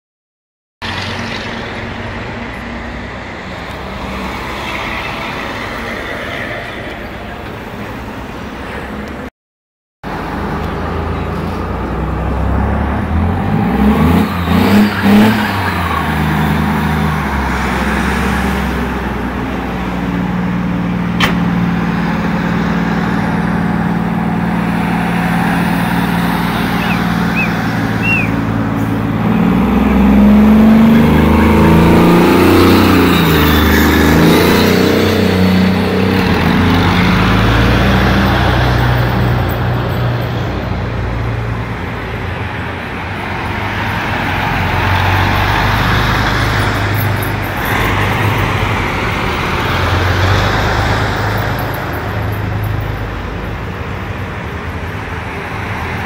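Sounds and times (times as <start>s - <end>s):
heavy vehicle engines passing: 0.8s - 9.3s, 10.1s - 56.0s.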